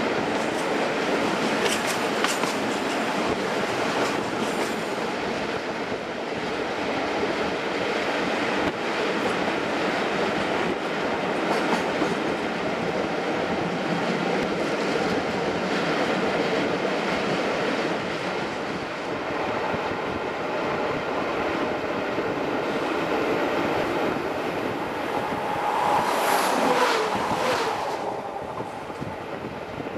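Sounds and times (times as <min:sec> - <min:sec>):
passing train: 0:00.0 - 0:29.9
train wind and wheels on rail: 0:00.0 - 0:29.9.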